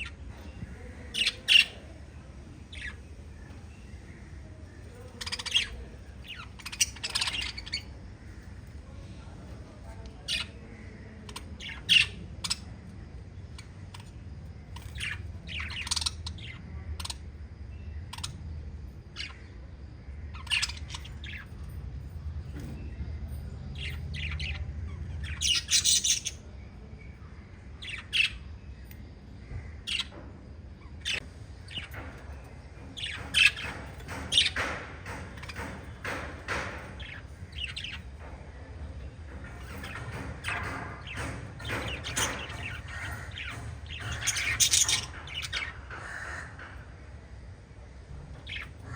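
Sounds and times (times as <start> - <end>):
parrots chirping and squawking: 0.0 - 2.0, 2.6 - 8.8, 10.2 - 19.6, 20.2 - 21.8, 23.8 - 26.5, 27.8 - 30.2, 30.8 - 38.4, 39.3 - 47.3, 48.3 - 48.9.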